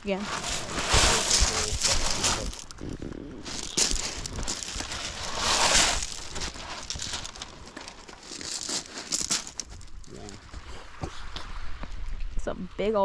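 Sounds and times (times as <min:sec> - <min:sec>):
footsteps crunching on rocks: 0:00.2 - 0:02.8, 0:03.4 - 0:11.9.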